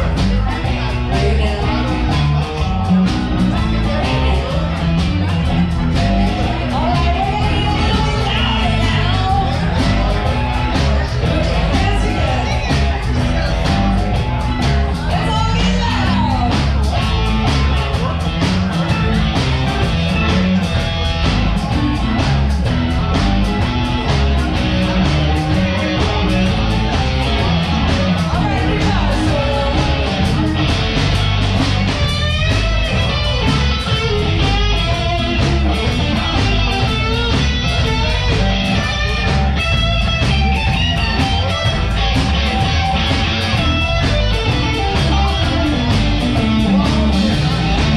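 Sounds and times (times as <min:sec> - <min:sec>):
bass guitar: 0:00.0 - 0:47.9
drum kit beat: 0:00.0 - 0:47.9
electric guitars: 0:00.0 - 0:47.9.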